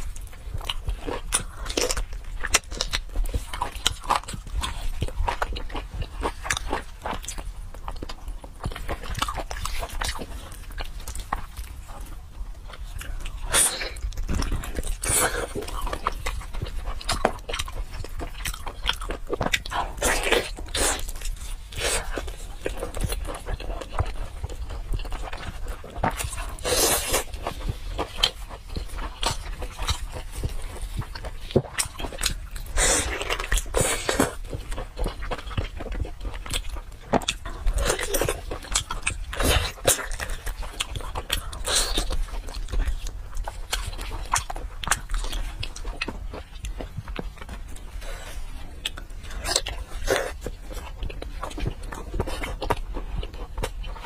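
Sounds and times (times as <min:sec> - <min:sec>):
wet chewing and biting: 0:00.0 - 0:54.0.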